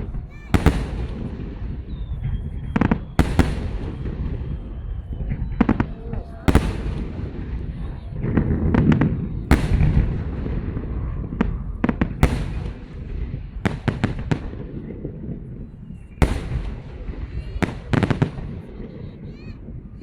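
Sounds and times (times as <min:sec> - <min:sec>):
fireworks bangs: 0:00.0 - 0:20.0
low rolling rumble of detonations: 0:00.0 - 0:20.0.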